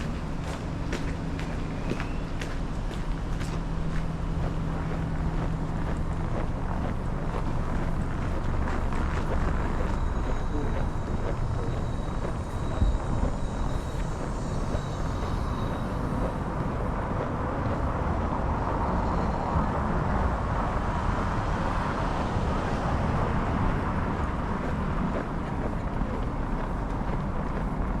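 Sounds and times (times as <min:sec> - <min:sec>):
city street traffic: 0:00.0 - 0:28.0
wind buffeting microphone: 0:00.0 - 0:28.0.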